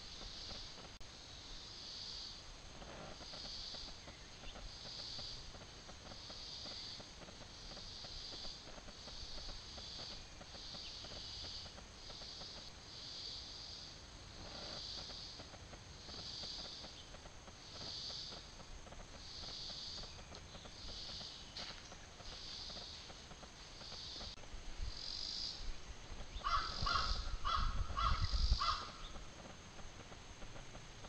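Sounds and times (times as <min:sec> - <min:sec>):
insects buzzing in pulses: 0:00.0 - 0:31.0
faint crackling rustle: 0:02.6 - 0:12.8, 0:14.3 - 0:24.8, 0:25.7 - 0:31.0.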